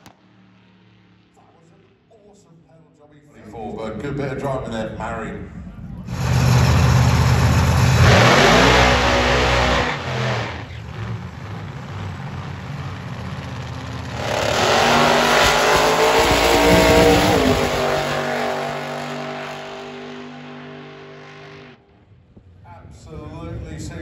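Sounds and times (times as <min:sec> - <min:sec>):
drag racing engines at full throttle: 0:03.8 - 0:24.0.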